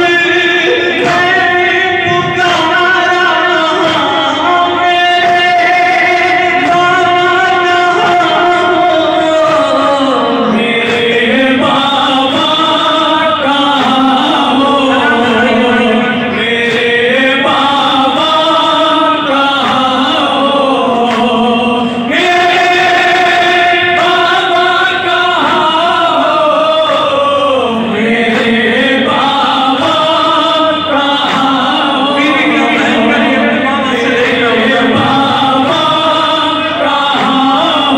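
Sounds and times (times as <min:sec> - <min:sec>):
men chanting into microphones: 0:00.0 - 0:37.9.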